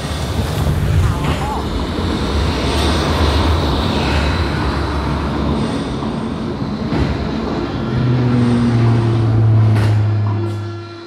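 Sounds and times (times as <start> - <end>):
train rumbling into station: 0.0 - 11.0.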